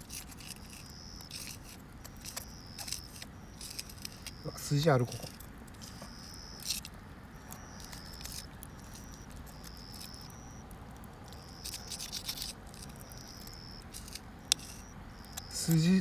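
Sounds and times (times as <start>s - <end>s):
high-pitched chirping calls: 0.4s - 16.0s.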